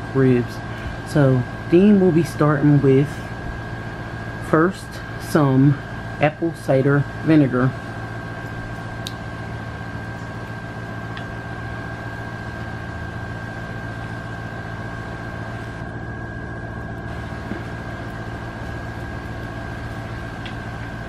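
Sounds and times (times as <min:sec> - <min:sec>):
appliance motor hum: 0:00.0 - 0:21.0
high-pitched whine: 0:00.0 - 0:21.0.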